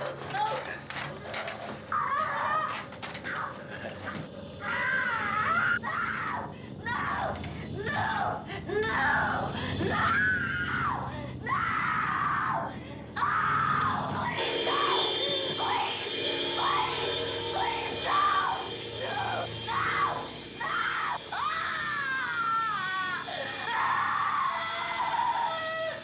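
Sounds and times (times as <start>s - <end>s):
music: 0.0s - 26.0s
woman screaming in terror: 1.9s - 3.5s, 4.6s - 16.0s, 17.6s - 26.0s.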